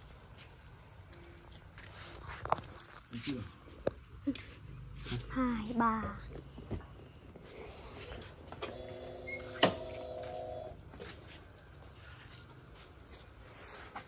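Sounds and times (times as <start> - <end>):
faint insects: 0.0 - 14.0.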